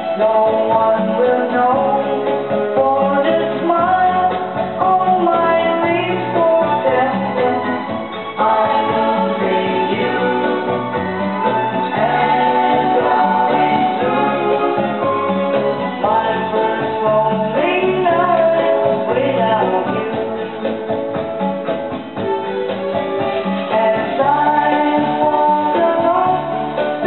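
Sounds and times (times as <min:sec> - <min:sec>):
song with singing and guitar: 0:00.0 - 0:27.0.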